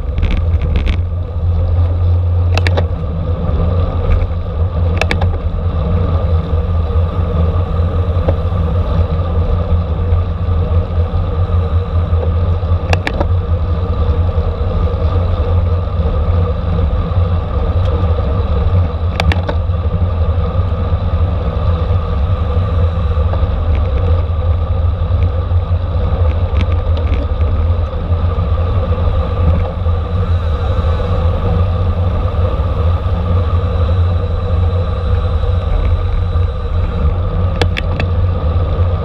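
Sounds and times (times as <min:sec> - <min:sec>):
wind and road noise rumble: 0:00.0 - 0:39.0.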